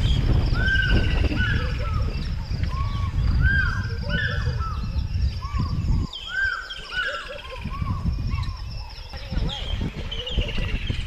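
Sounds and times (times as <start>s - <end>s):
birds calling: 0.0s - 11.0s
wind rumbling on microphone: 0.0s - 11.0s.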